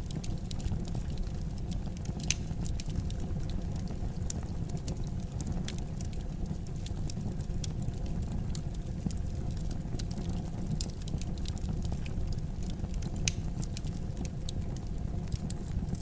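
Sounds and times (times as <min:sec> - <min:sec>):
fire crackling with sharp pops: 0:00.0 - 0:16.0
low rumble of fire: 0:00.0 - 0:16.0.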